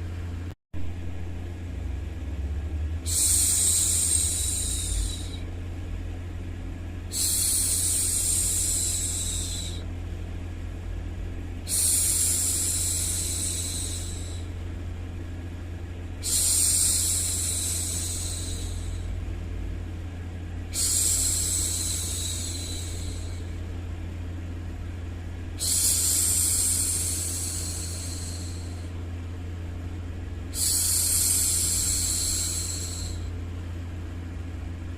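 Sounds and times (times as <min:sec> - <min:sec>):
white noise hum: 0:00.0 - 0:34.9.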